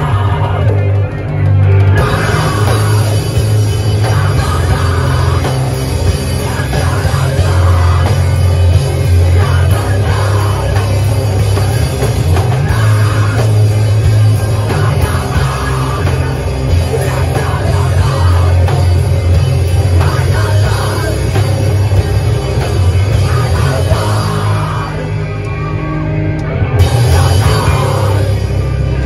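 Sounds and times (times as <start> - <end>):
drum kit pounding: 0.0 - 25.6, 26.4 - 29.0
heavy low bass: 0.0 - 29.0
live rock band playing: 0.0 - 29.0.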